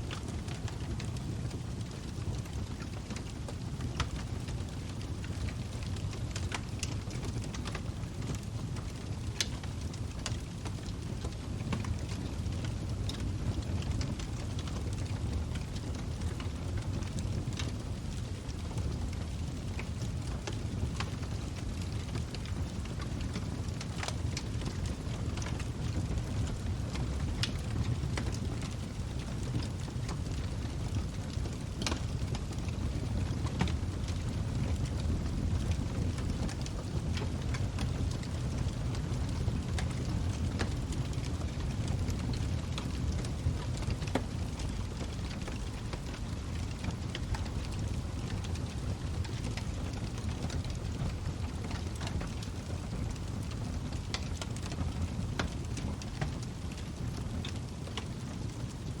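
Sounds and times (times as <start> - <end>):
burning wood crackling and popping: 0.0 - 59.0
fire flames rumbling: 0.0 - 59.0.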